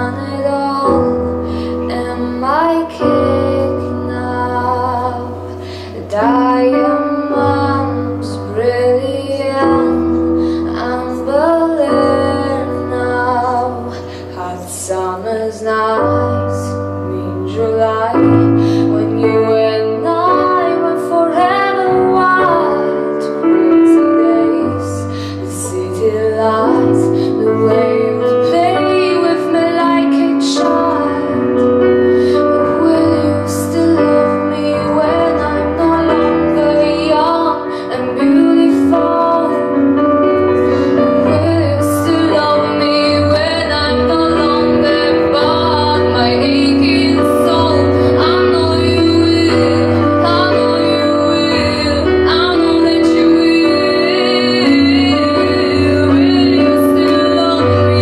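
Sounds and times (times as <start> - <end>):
girl singing: 0.0 - 31.7, 32.3 - 58.0
piano accompaniment: 0.0 - 58.0.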